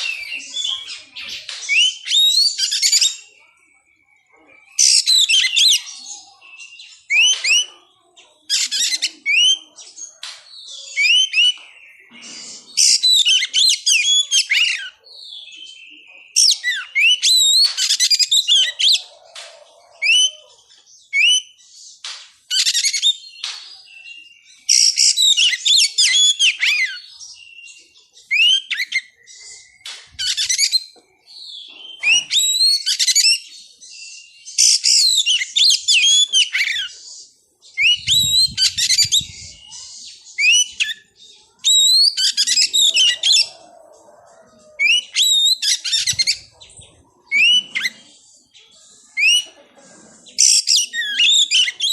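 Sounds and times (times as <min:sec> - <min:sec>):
magpie-robin singing: 0:00.0 - 0:43.6, 0:44.2 - 0:49.5, 0:50.4 - 0:51.9.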